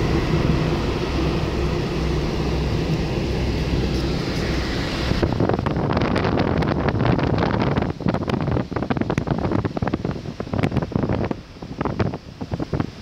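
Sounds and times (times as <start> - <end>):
car engine and tyre rumble: 0.0 - 13.0
wind buffeting microphone: 0.0 - 13.0.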